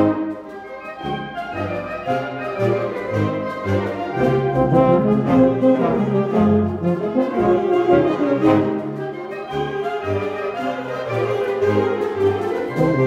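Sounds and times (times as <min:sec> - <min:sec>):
brass ensemble music: 0:00.0 - 0:13.0.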